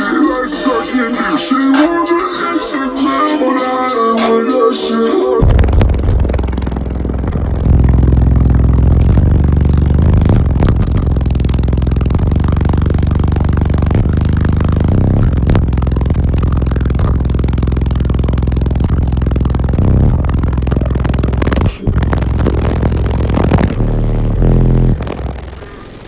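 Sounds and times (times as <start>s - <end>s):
bass-heavy music from subwoofers: 0.0s - 26.0s.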